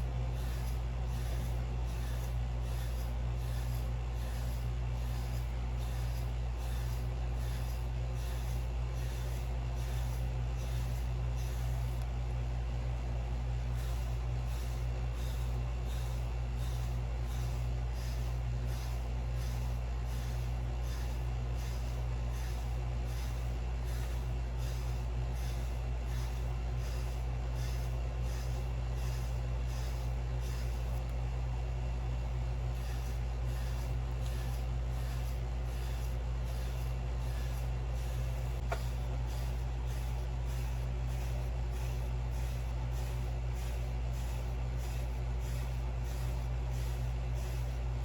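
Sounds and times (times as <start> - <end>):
brush stroking through hair: 0.0 - 12.0, 13.7 - 31.0, 32.7 - 47.8
steady low hum: 0.0 - 48.0.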